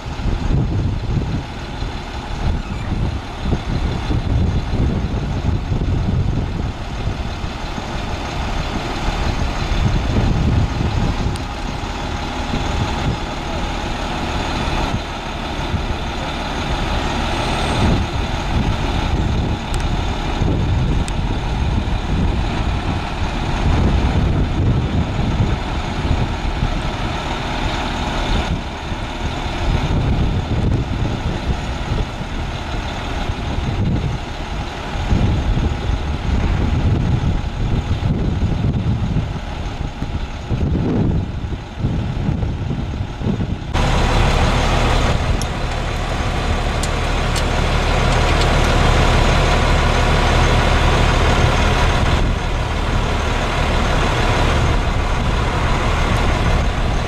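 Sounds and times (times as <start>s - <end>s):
crane raising boom: 0.0s - 57.0s
diesel truck engine running: 0.0s - 57.0s.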